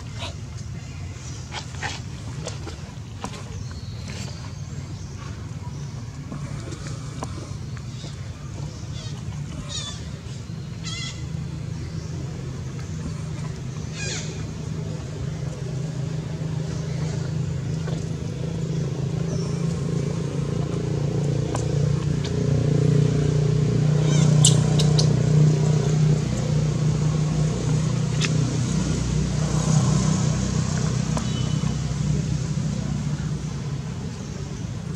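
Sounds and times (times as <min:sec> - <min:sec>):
vehicle engine running: 0:03.6 - 0:34.9.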